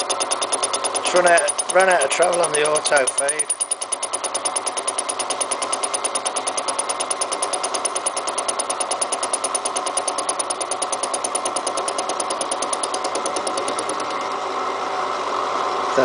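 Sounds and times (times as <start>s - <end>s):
milling cutter chattering on steel: 0.0s - 14.3s
milling machine running: 0.0s - 14.5s.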